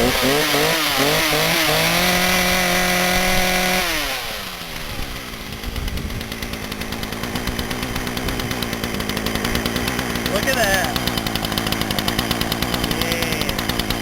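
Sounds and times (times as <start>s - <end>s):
chainsaw engine revving and idling: 0.0s - 14.0s.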